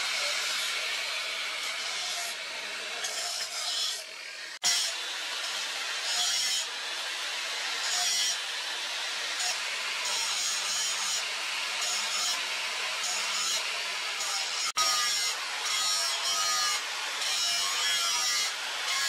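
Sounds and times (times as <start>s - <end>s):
angle grinder grinding steel: 0.0s - 19.0s.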